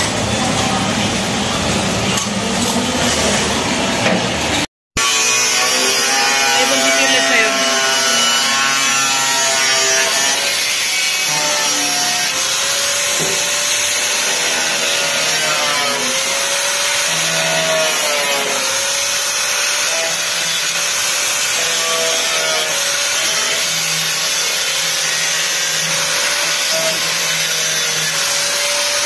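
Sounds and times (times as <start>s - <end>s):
angle grinder cutting steel: 5.0s - 29.0s.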